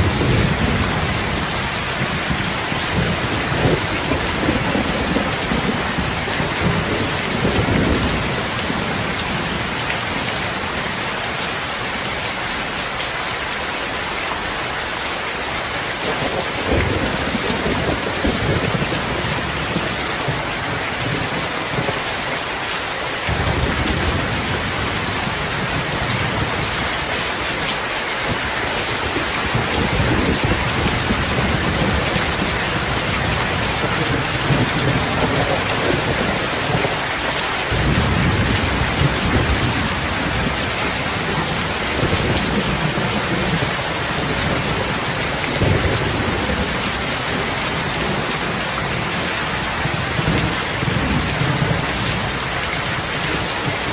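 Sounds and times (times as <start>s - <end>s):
low thunder rumbling: 0.0s - 10.4s, 16.0s - 22.4s, 23.2s - 53.9s
heavy rain falling: 0.0s - 53.9s.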